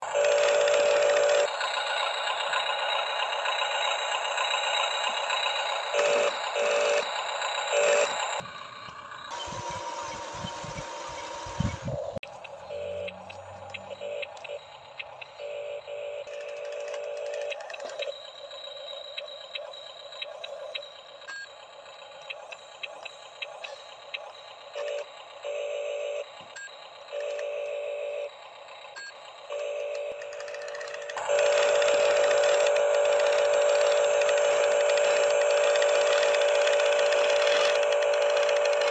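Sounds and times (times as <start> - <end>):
toy gear motors running: 0.0 - 38.9.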